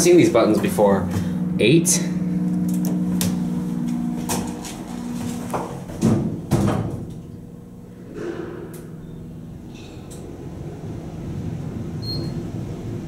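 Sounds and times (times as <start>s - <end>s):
elevator hum: 0.0s - 13.0s.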